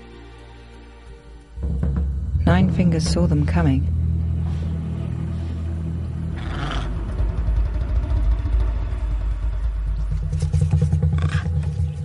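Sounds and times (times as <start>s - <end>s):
tense music with low drone: 0.0s - 12.0s.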